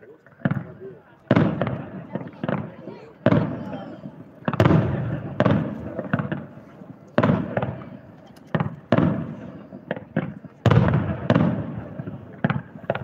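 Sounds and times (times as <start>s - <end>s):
firework shells bursting: 0.3s - 13.0s.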